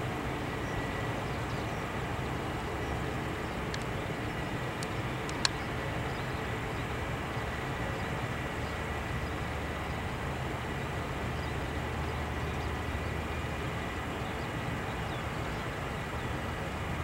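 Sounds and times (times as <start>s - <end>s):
distant turboprop engines droning: 0.0s - 17.0s
faint high whine: 0.0s - 17.0s.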